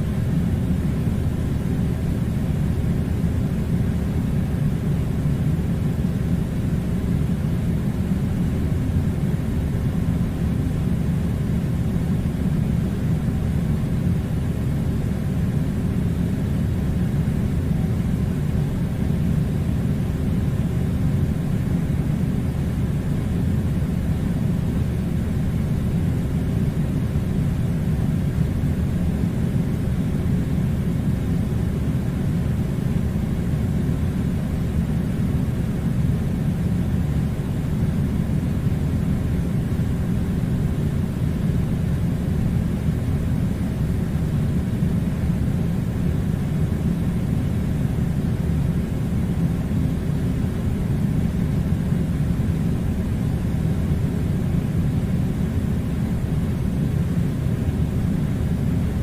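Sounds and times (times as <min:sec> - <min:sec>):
air conditioner low rumble: 0:00.0 - 0:59.0.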